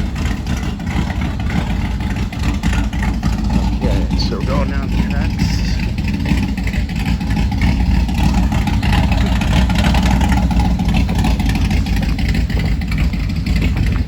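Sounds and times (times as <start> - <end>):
loud car engine and exhaust: 0.0 - 14.0.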